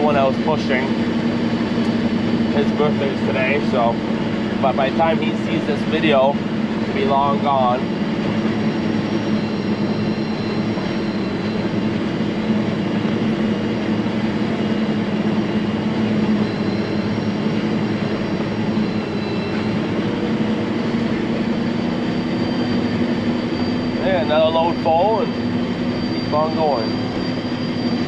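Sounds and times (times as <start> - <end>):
faint high whine: 0.0 - 28.0
harvester machine hum: 0.0 - 28.0.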